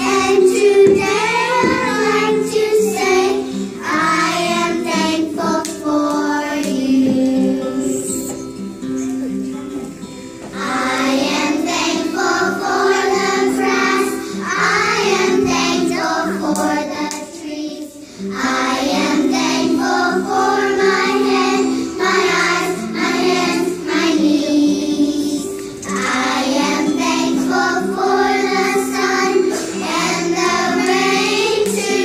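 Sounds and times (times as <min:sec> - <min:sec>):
children singing together: 0:00.0 - 0:08.5, 0:10.4 - 0:32.0.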